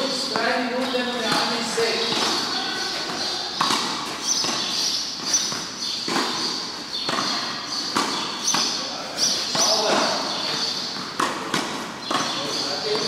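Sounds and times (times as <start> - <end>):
ball bouncing: 0.0 - 13.0
racket striking ball: 0.0 - 13.0.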